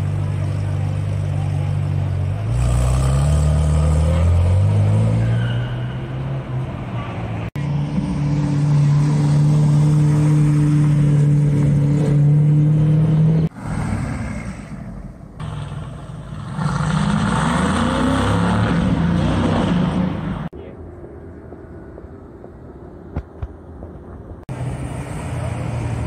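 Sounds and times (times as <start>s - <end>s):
car engine and exhaust: 0.0s - 26.0s.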